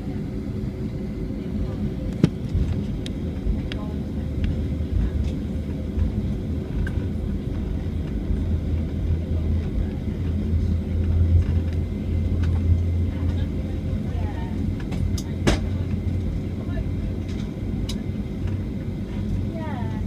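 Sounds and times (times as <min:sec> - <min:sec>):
aircraft engine hum: 0:00.0 - 0:20.0
heavy low rumble: 0:00.0 - 0:20.0.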